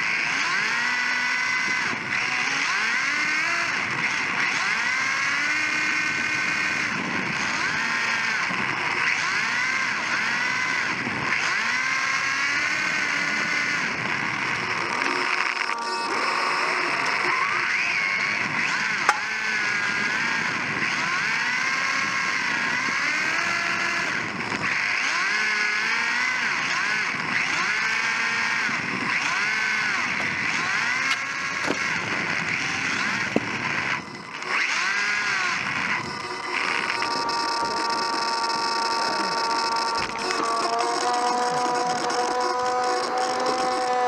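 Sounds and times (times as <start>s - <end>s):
electric motor and gears whining: 0.0s - 44.0s.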